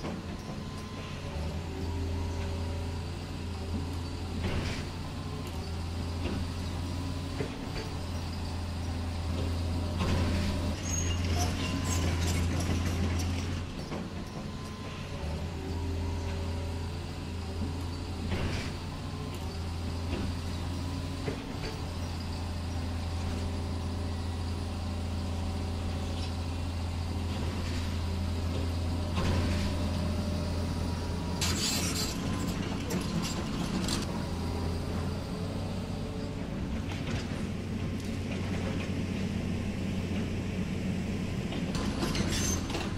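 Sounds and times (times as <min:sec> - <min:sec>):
model excavator humming: 0:00.0 - 0:42.9.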